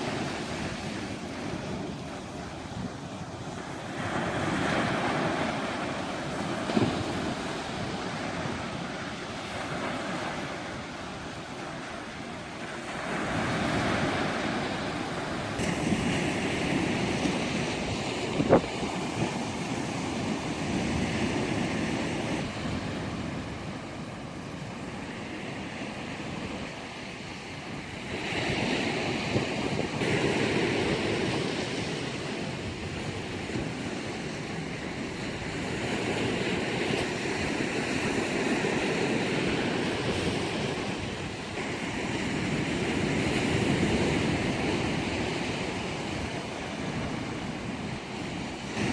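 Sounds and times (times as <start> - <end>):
sea waves breaking on shore: 0.0 - 48.9
wind on microphone: 0.0 - 48.9.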